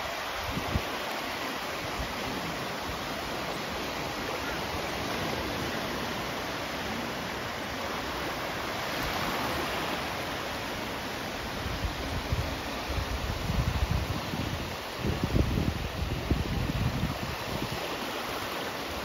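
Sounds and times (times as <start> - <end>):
small waves breaking on shore: 0.0 - 19.0.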